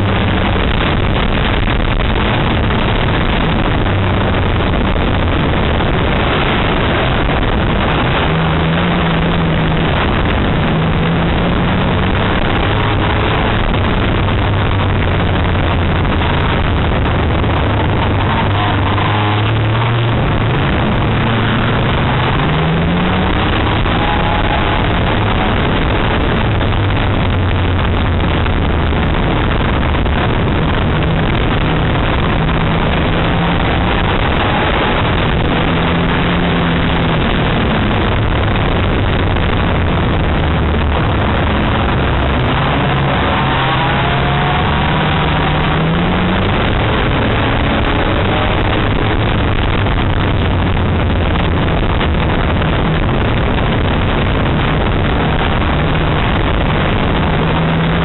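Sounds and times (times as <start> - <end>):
race car engine revving: 0.0 - 58.0
road and tyre noise: 0.0 - 58.0.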